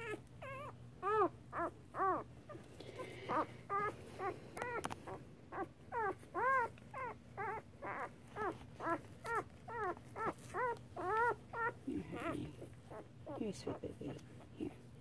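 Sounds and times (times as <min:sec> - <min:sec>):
puppy crying in short squeals: 0:00.0 - 0:02.6, 0:03.3 - 0:13.4.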